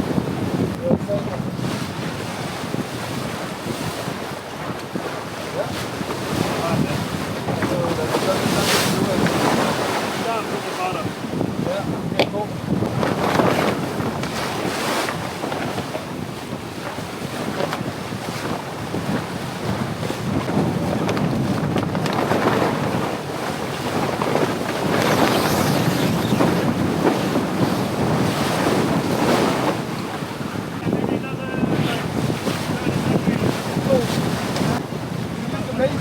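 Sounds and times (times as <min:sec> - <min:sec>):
sea waves rushing: 0:00.0 - 0:36.0
wind buffeting microphone: 0:00.0 - 0:36.0.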